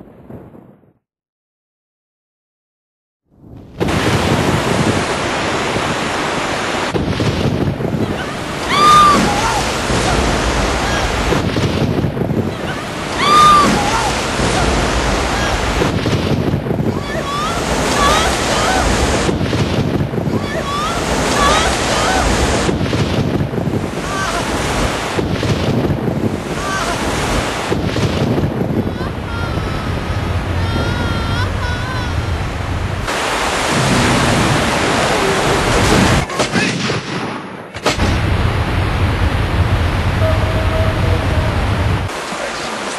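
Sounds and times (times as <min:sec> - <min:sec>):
waterfall roaring: 0:03.9 - 0:36.6, 0:37.8 - 0:42.9
whitewater rapids rushing: 0:04.0 - 0:36.6, 0:40.2 - 0:42.9.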